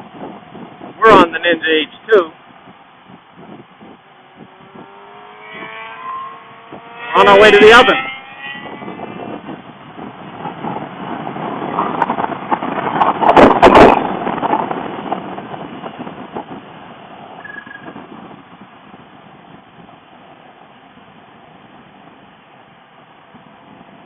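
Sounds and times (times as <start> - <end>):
motorcycle engine and rushing air: 0.0 - 24.0
sharp exhaust crackles: 0.1 - 23.9.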